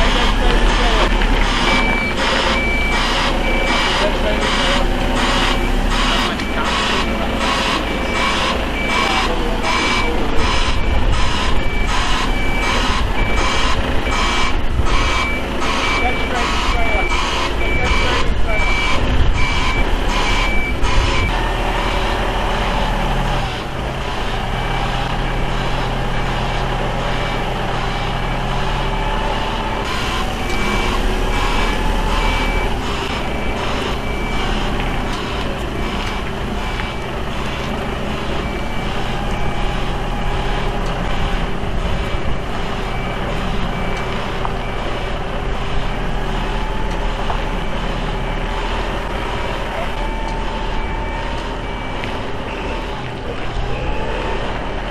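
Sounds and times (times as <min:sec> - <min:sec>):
high warning beeps: 0:00.0 - 0:22.4, 0:24.6 - 0:54.5
truck diesel engine under load: 0:00.0 - 0:54.9.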